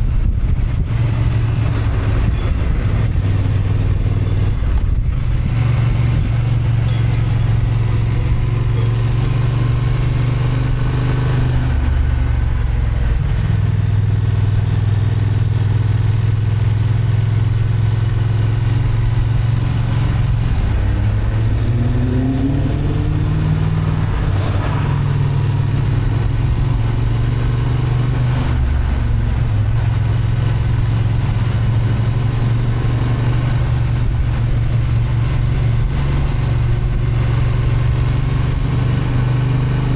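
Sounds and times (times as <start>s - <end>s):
motorcycle engine running under load: 0.0s - 39.9s.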